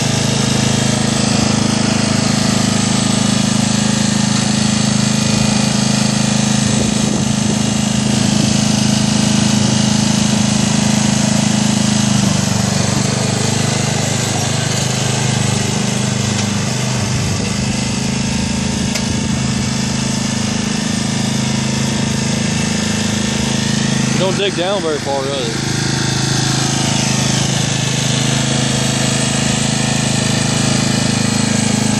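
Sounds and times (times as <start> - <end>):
small mower engine running: 0.0 - 31.9.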